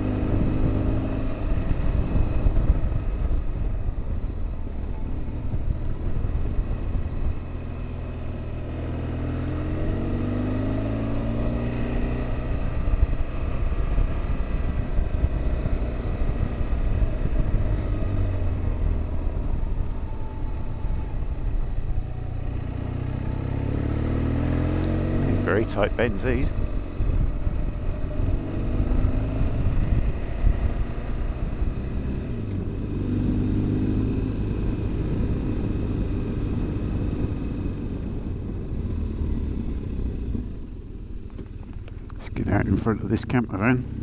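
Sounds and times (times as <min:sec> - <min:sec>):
motorcycle engine running: 0:00.0 - 0:44.0
road and wind noise: 0:00.0 - 0:44.0.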